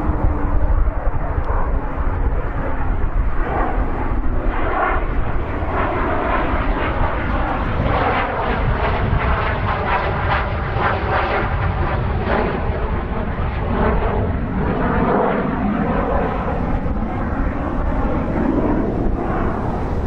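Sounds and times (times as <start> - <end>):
jet engine rumble and hiss: 0.0 - 20.0.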